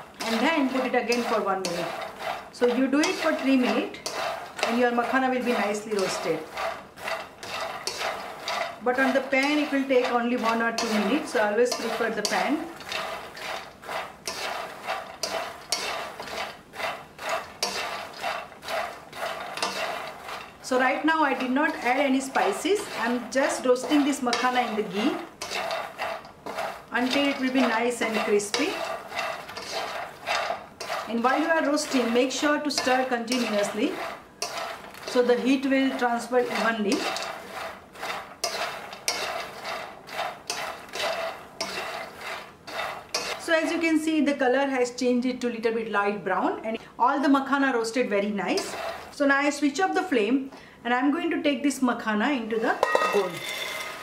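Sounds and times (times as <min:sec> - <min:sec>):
spatula scraping nuts in a pan: 0:00.0 - 0:50.3, 0:51.7 - 0:54.0.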